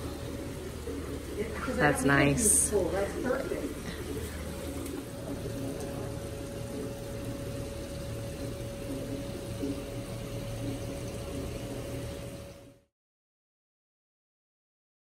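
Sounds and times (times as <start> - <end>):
pump humming: 0.0 - 12.9
running water: 0.0 - 12.9.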